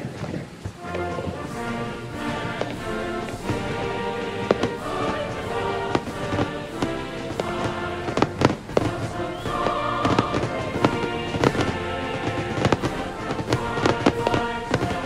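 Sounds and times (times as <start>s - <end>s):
fireworks bursting: 0.0s - 15.0s
music playing: 0.7s - 15.0s.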